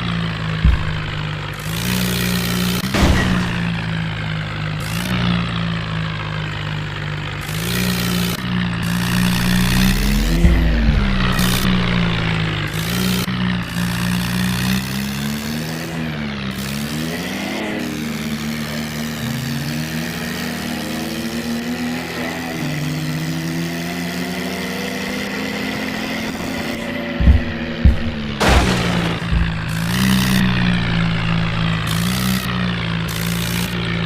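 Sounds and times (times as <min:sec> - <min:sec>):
toy tractor engine drone: 0:00.0 - 0:34.0.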